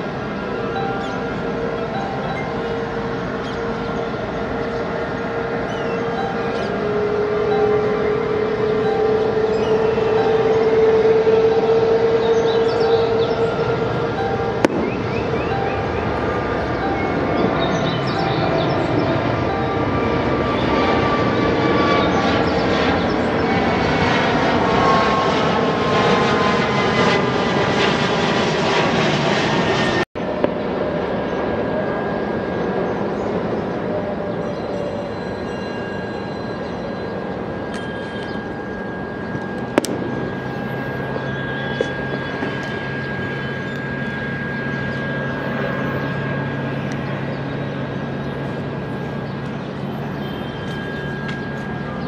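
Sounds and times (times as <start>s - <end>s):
jet engines taxiing: 0.0s - 52.0s.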